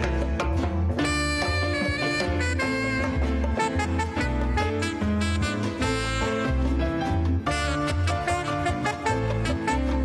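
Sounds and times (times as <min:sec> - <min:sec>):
bass line: 0:00.0 - 0:10.0
plucked strings: 0:00.0 - 0:10.0
saxophone melody: 0:01.0 - 0:10.0.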